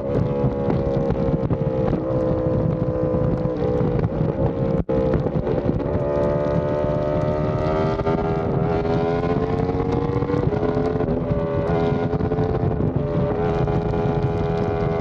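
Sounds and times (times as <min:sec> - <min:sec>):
motorcycle engine accelerating: 0:00.0 - 0:15.0
wind noise on microphone: 0:00.0 - 0:15.0.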